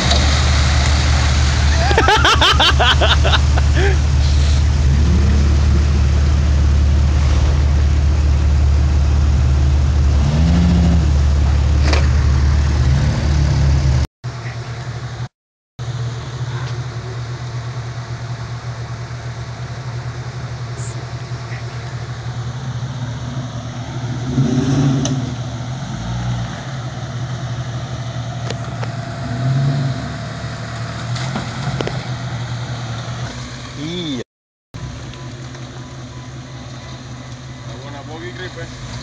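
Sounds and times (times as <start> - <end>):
engines idling: 0.0 - 34.2, 34.8 - 39.0.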